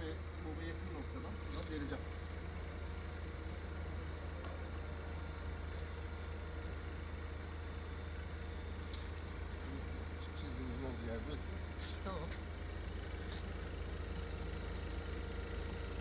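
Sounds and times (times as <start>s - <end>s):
forklift engine idling: 0.0s - 16.0s.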